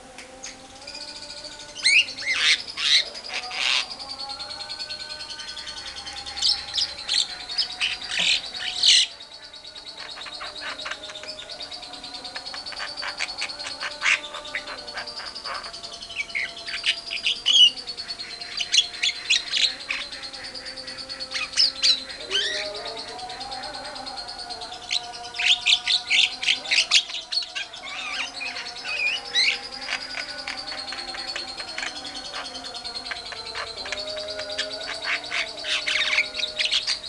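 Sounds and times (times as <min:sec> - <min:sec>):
birds chirping and chattering: 0:00.0 - 0:37.0
steady high bird trill: 0:00.0 - 0:37.0.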